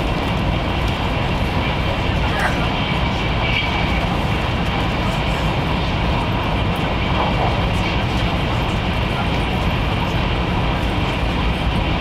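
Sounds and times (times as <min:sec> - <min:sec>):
train cabin rumble and hiss: 0:00.0 - 0:12.0.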